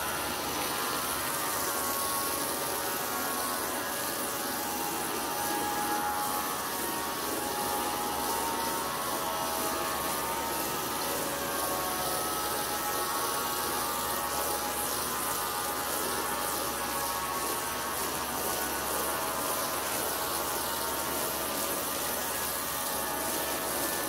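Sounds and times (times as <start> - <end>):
steady hum: 0.0 - 24.0
water jet spraying floor: 0.0 - 24.0.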